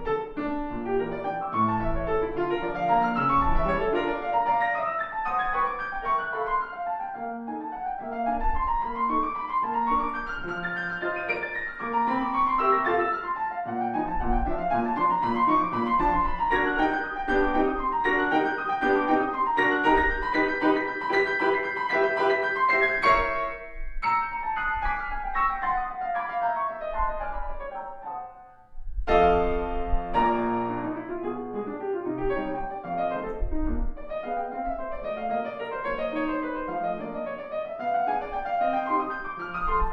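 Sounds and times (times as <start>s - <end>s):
solo piano classical piece: 0.0s - 39.9s.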